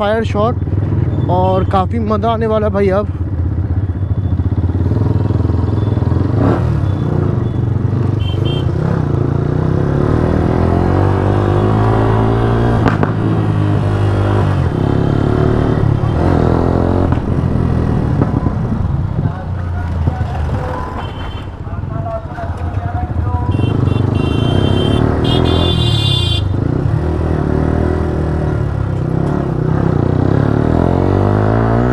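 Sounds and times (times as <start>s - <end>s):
motorcycle engine revving: 3.3s - 31.9s.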